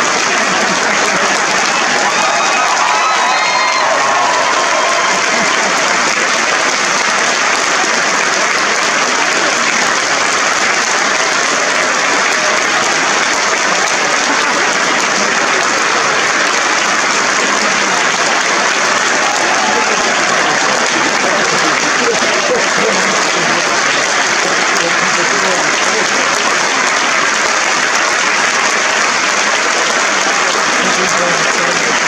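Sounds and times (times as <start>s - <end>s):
crowd applauding: 0.0s - 32.0s.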